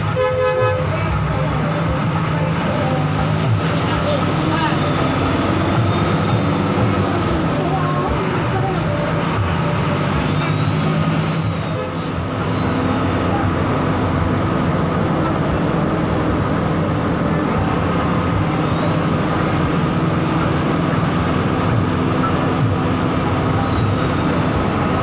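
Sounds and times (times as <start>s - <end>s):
bus engine drone: 0.0s - 25.0s
road and rolling noise: 0.0s - 25.0s.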